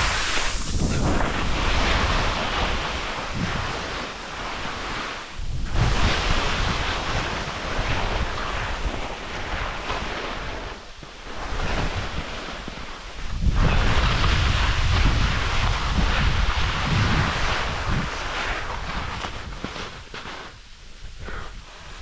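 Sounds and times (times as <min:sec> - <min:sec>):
skis scraping through slush: 0:00.0 - 0:22.0
wind rushing over microphone: 0:00.0 - 0:22.0.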